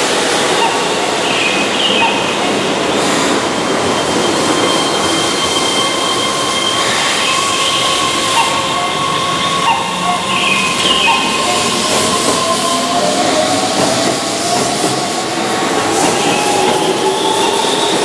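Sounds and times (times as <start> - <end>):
train and wheel hiss: 0.0 - 18.0.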